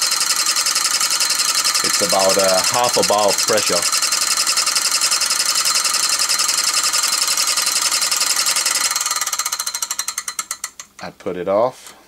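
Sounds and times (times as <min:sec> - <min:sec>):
air compressor running: 0:00.0 - 0:11.0
steam engine mechanical chatter: 0:00.0 - 0:11.0.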